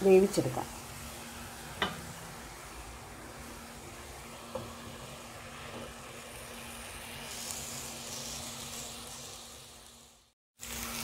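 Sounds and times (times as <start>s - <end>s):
food simmering in covered pan: 0.0s - 11.0s.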